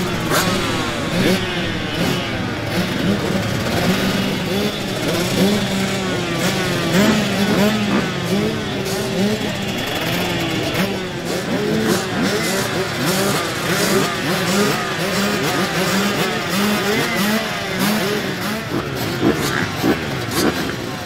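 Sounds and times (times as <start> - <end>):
motocross bikes revving: 0.0 - 21.0.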